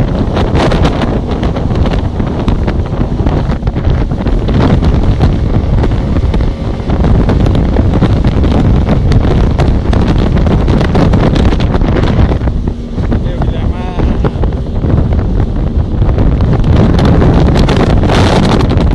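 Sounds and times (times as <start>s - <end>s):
motorboat rushing noise: 0.0s - 18.9s
wind buffeting microphone: 0.0s - 18.9s.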